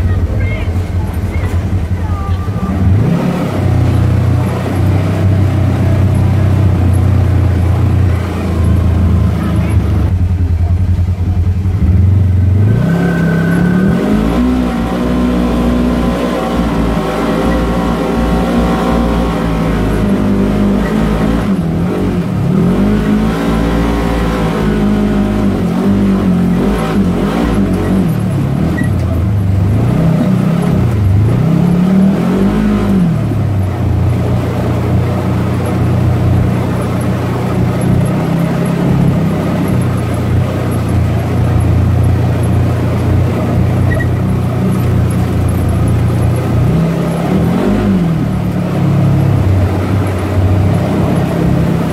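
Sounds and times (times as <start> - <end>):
off-road vehicle engine revving: 0.0 - 51.9
rough road noise: 0.0 - 51.9.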